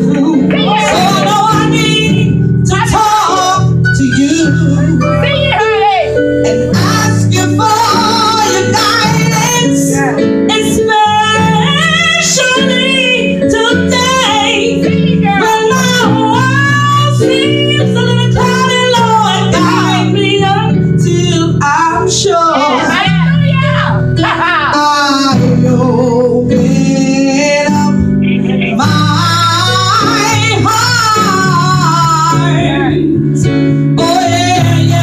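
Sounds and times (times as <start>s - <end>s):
woman singing gospel solo: 0.0s - 28.0s, 28.7s - 35.0s
sustained low instrumental chords: 0.0s - 35.0s.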